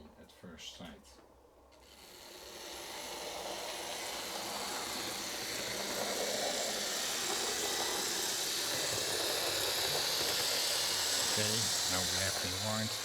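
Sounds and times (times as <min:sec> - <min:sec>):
model train wheels rolling on rails: 0:01.7 - 0:13.0
small electric motor whirring: 0:01.8 - 0:13.0.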